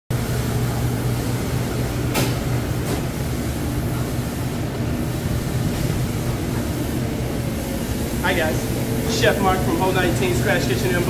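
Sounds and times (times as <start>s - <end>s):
kitchen ventilation fans humming: 0.1s - 11.0s.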